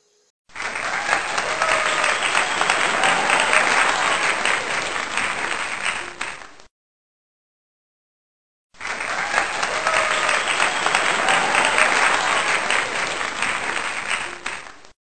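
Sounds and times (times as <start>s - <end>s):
crowd applause: 0.5s - 6.7s, 8.8s - 15.0s.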